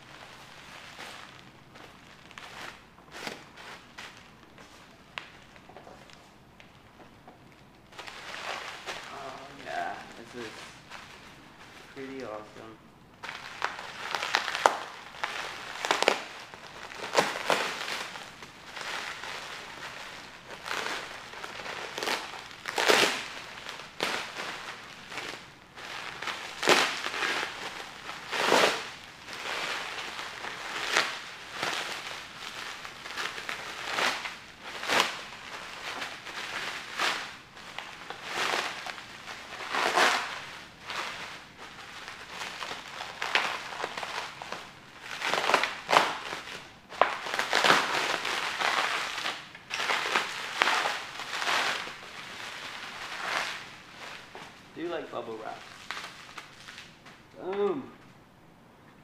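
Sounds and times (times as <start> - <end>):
bubble wrap crinkling: 0.0 - 57.8.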